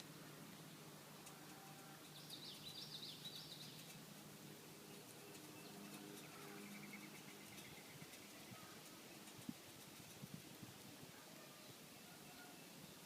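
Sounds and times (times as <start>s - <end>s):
faint bird chirping: 0.6s - 10.2s, 11.1s - 13.0s.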